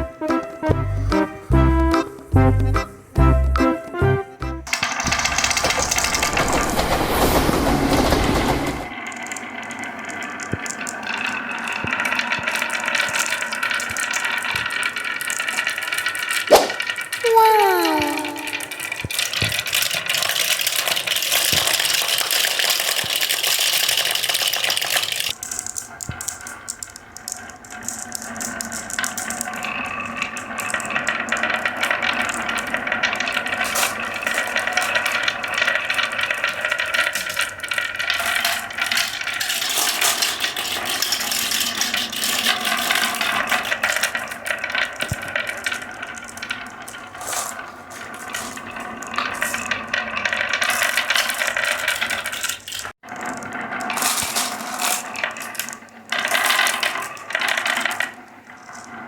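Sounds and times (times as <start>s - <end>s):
marbles clattering down wooden tracks: 4.7s - 59.0s.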